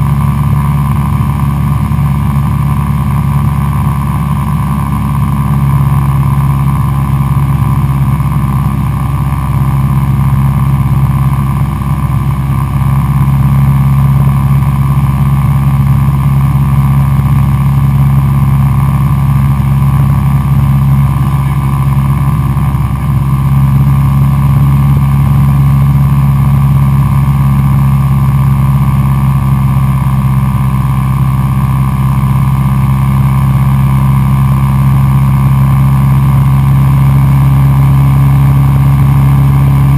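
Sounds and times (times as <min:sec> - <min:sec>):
airplane engine drone in flight: 0:00.0 - 0:39.9.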